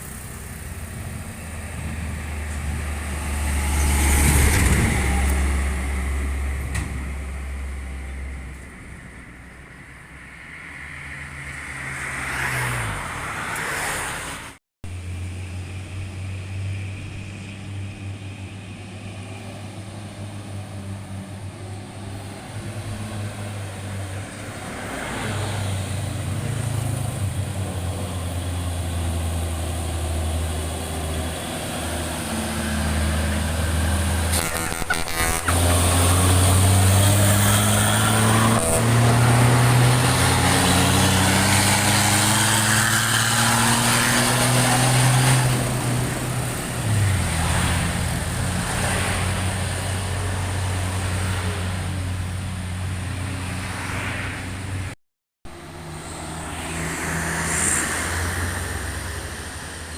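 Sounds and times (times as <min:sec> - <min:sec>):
diesel truck engine climbing: 0:00.0 - 0:59.9.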